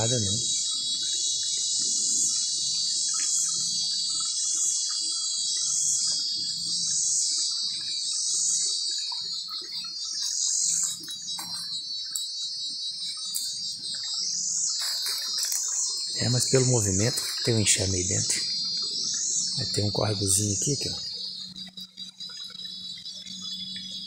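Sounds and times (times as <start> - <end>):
cicadas buzzing: 0.0 - 24.0
honeybees humming: 0.0 - 24.0.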